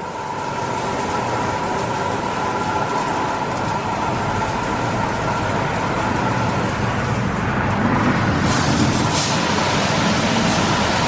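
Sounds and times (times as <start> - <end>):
water spray rushing: 0.0 - 11.0.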